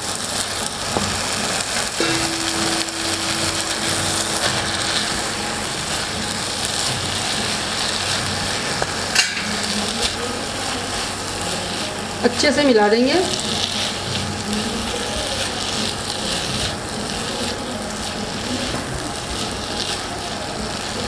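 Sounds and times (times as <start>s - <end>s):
sizzling in oil: 0.0s - 21.0s.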